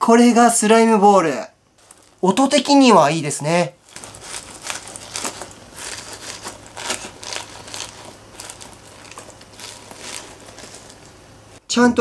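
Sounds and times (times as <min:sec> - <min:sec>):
frozen squeeze ball crunching: 0:01.8 - 0:11.5.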